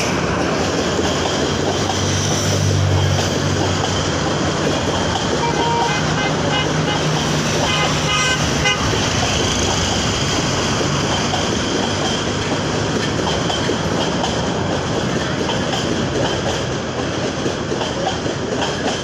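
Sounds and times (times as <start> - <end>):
moving train running noise: 0.0 - 19.0.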